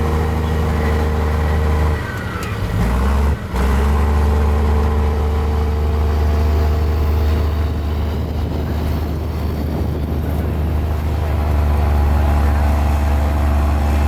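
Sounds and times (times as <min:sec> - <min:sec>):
bulldozer diesel engine drone: 0:00.0 - 0:14.0.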